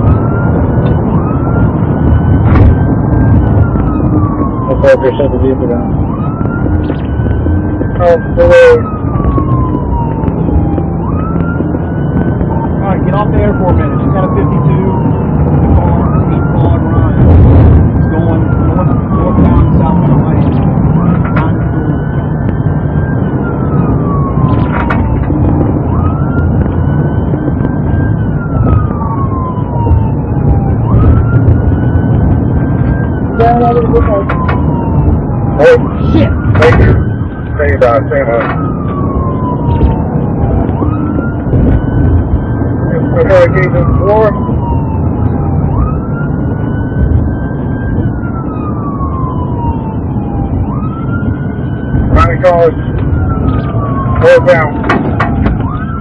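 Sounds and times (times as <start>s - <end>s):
car driving at speed: 0.0s - 56.0s
engine and road rumble: 0.0s - 56.0s
police siren wailing: 0.0s - 56.0s.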